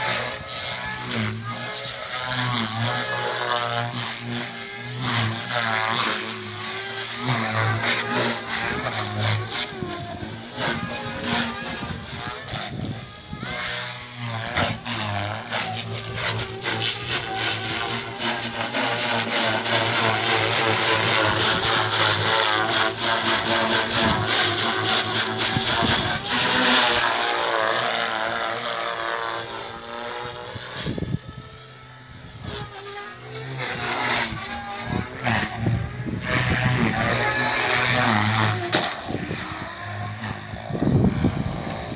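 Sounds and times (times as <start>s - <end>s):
helicopter rotor hum and blade chop: 0.0s - 41.9s
motor and gear whine: 0.0s - 41.9s.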